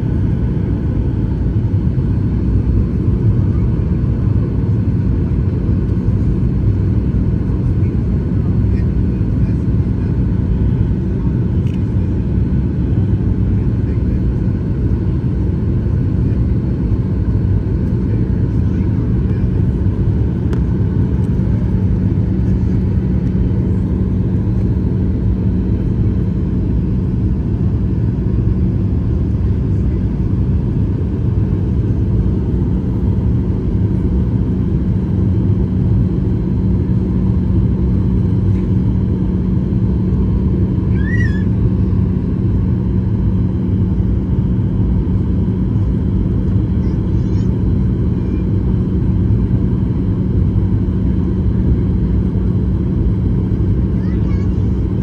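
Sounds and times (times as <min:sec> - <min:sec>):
airliner cabin jet drone: 0:00.0 - 0:55.0.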